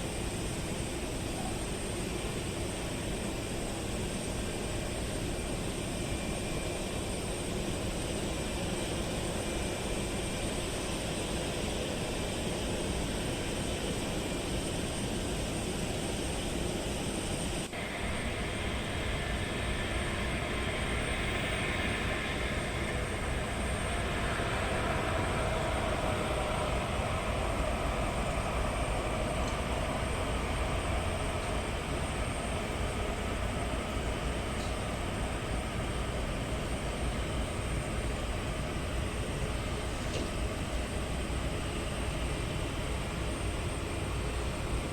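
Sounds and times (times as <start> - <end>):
jet engines roaring: 3.1 - 44.8.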